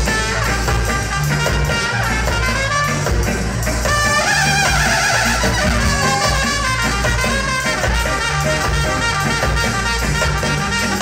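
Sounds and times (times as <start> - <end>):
bass line: 0.0 - 11.0
horn section: 0.0 - 11.0
ska band playing: 0.0 - 11.0.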